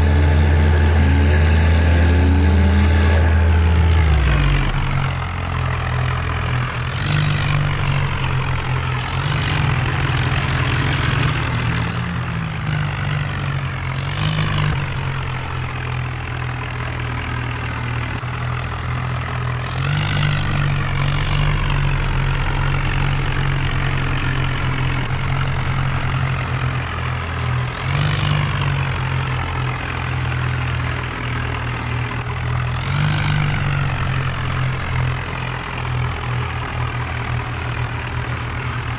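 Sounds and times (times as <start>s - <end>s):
tractor engine humming: 0.0s - 38.9s.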